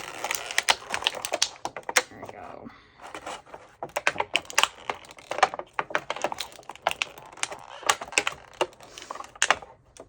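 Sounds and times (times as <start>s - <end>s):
packaging clicks and crackles: 0.0s - 2.3s, 3.0s - 10.0s
packaging rustle: 0.0s - 2.3s, 3.0s - 10.0s.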